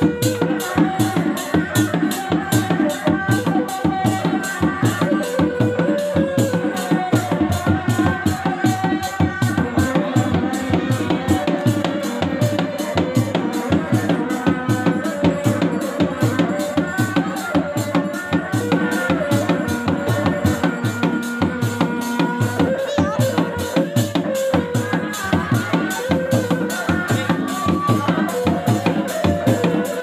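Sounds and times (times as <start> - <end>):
frame drums beating fast rhythm: 0.0 - 30.0
wavering reed horn melody: 0.0 - 30.0.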